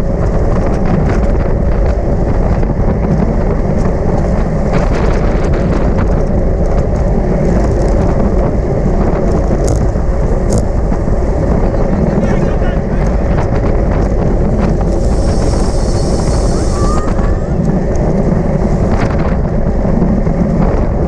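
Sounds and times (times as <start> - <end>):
low road rumble: 0.0 - 21.0
wind buffeting microphone: 0.0 - 21.0.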